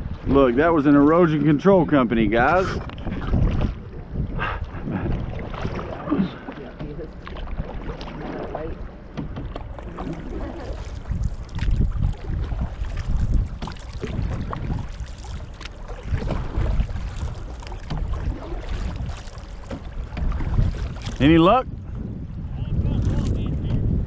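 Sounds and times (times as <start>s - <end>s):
water lapping at canoe: 0.0s - 24.0s
wind buffeting microphone: 0.0s - 24.0s
paddle strokes: 2.2s - 22.1s.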